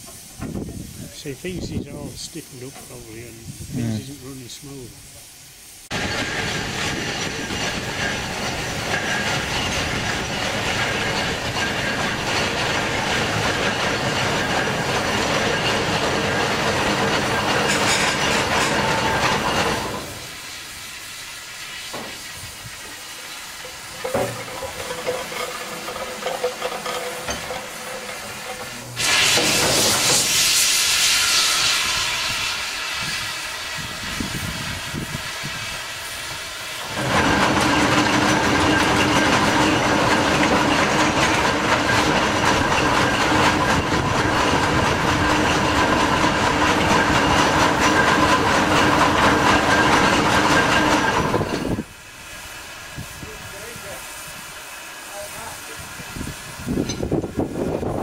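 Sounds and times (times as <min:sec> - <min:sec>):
loud steam hiss: 0:00.0 - 0:58.0
steam engine and gearing running: 0:00.0 - 0:58.0.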